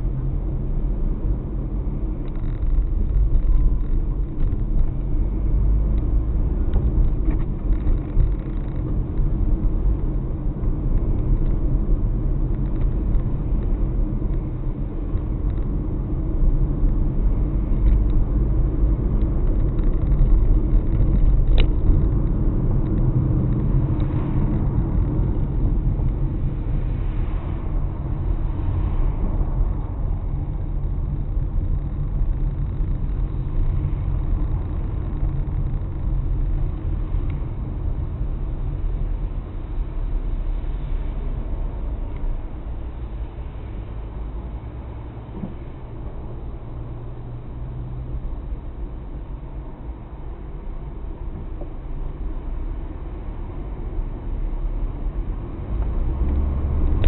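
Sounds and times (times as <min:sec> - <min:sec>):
car interior road rumble: 0:00.0 - 0:57.0.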